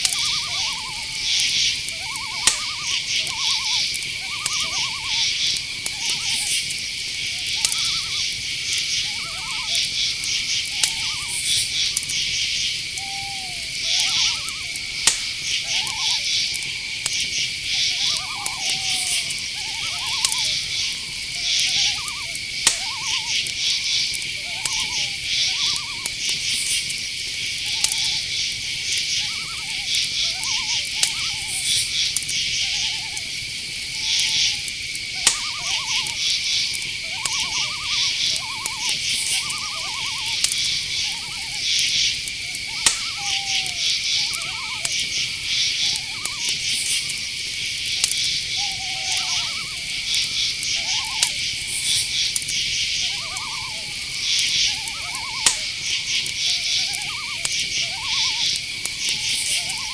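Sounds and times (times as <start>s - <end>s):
cricket trill: 0.0s - 59.9s
pulsed insect chirping: 0.0s - 59.9s
rising and falling calls: 0.0s - 59.9s.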